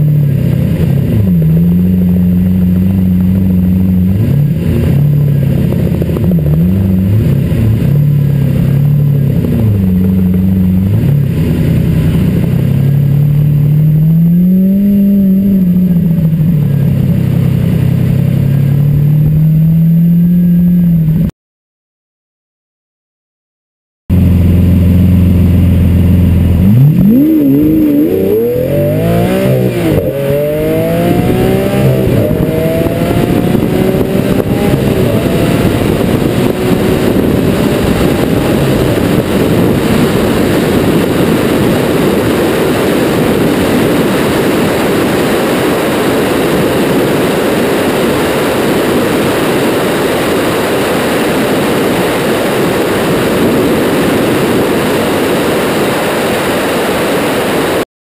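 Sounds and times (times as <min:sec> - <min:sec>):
car engine revving: 0:00.0 - 0:21.3, 0:24.1 - 0:57.8
engine rush at high speed: 0:00.0 - 0:21.3, 0:24.1 - 0:57.9.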